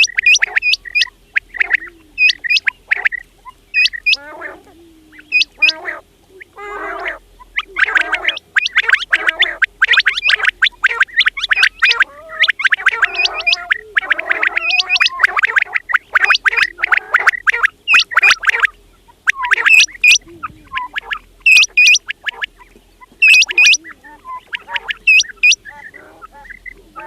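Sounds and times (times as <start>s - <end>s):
quail calling: 0.0s - 27.0s.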